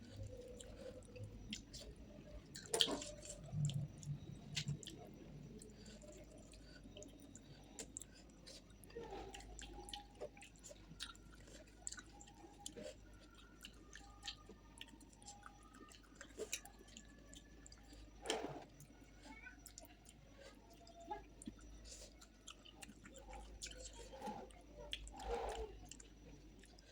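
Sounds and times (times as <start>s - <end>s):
wet chewing and mouth clicks: 0.0s - 26.9s.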